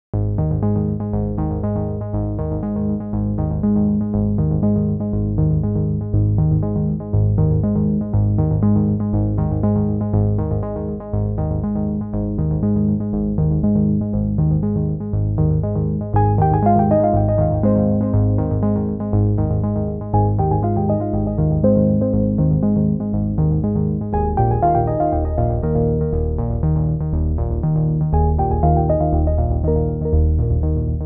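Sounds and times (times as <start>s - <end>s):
background music repeating notes: 0.2s - 31.0s.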